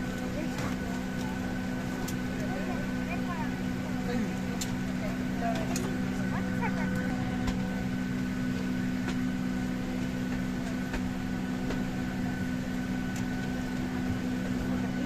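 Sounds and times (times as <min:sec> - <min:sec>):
cabin air system hum: 0:00.0 - 0:15.0
jet engine drone: 0:00.0 - 0:15.0.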